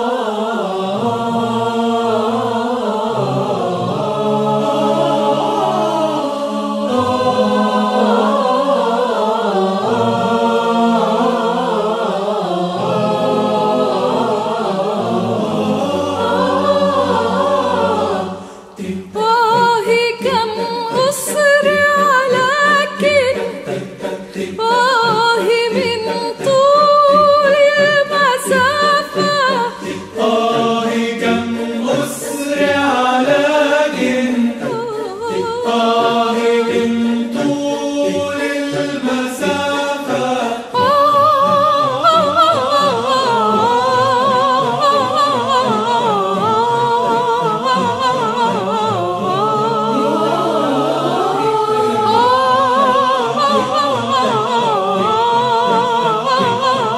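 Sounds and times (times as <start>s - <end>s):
choir singing a cappella: 0.0s - 56.9s.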